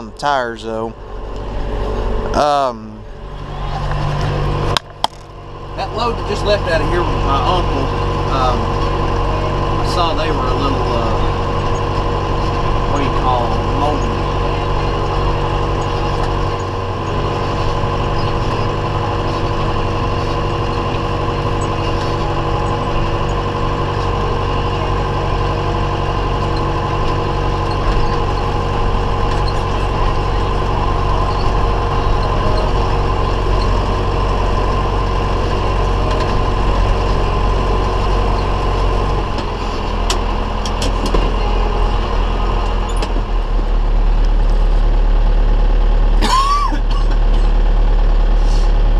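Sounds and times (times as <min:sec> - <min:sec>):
diesel engine running: 0:00.0 - 0:48.9
machinery whirring: 0:00.0 - 0:48.9.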